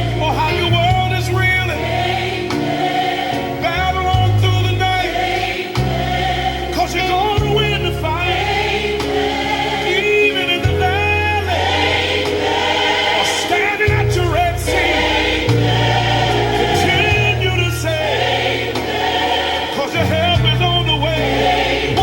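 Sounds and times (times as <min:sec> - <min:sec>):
band accompaniment: 0:00.0 - 0:22.0
gospel choir singing: 0:00.0 - 0:22.0
sustained bass line: 0:00.0 - 0:22.0.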